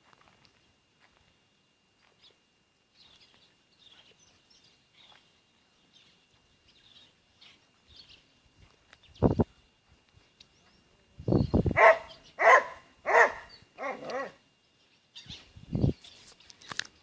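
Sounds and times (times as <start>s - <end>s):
faint bird chirping: 1.3s - 17.0s.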